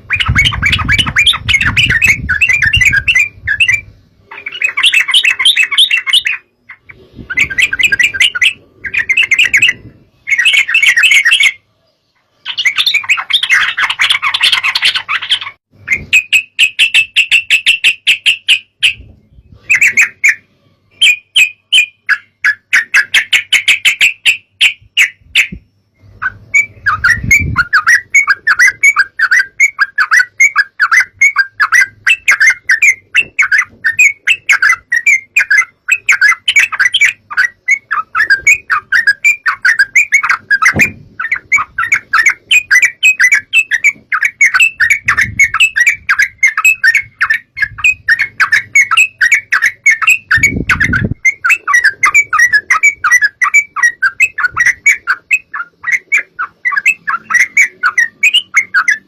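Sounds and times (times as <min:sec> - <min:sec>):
bird chattering: 0:00.0 - 0:11.6, 0:12.2 - 0:19.1, 0:19.7 - 0:59.0.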